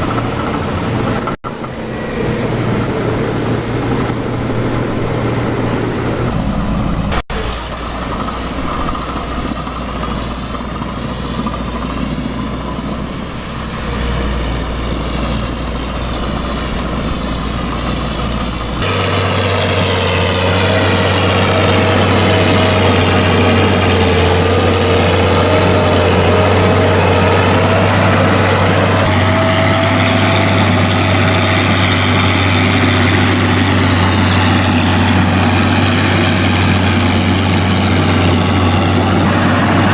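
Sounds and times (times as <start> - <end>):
high steady whine: 0.0 - 39.9
tractor engine running under load: 0.0 - 39.9.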